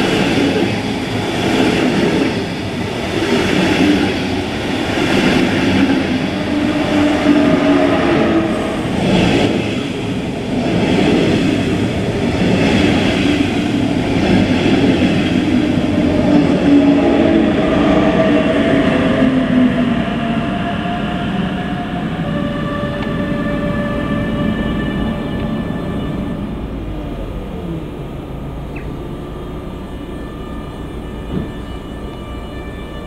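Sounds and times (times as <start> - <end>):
steady humming tones: 0.0 - 33.0
train rolling noise: 0.0 - 33.0.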